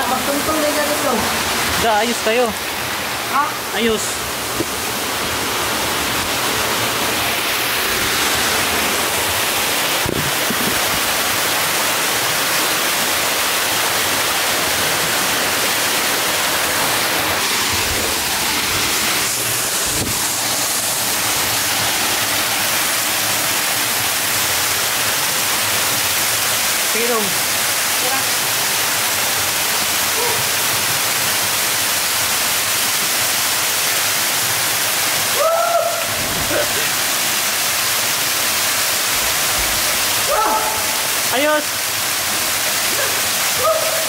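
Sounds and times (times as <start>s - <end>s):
waterfall pouring: 0.0s - 44.0s.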